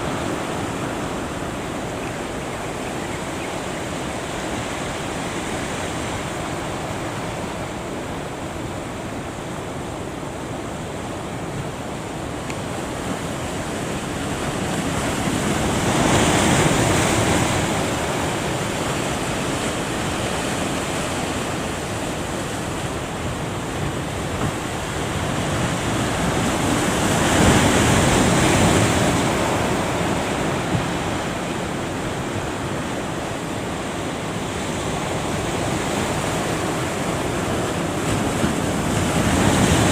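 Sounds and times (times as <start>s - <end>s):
big waves crashing: 0.0s - 39.9s.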